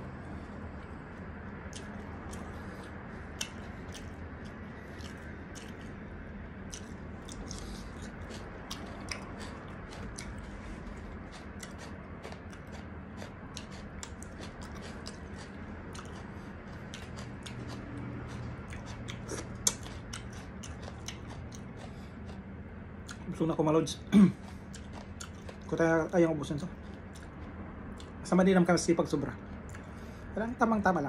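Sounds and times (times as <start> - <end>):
person chewing food: 0.2 - 23.4, 24.2 - 25.8, 26.5 - 28.2, 29.4 - 30.3.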